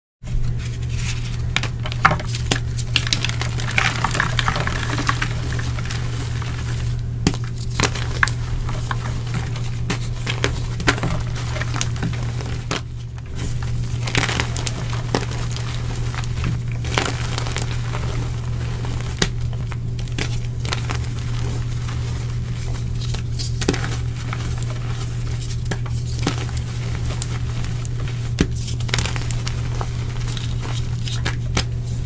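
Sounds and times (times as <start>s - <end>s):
steady low hum: 0.2s - 32.0s
chalk crunching and crackling: 0.3s - 32.0s.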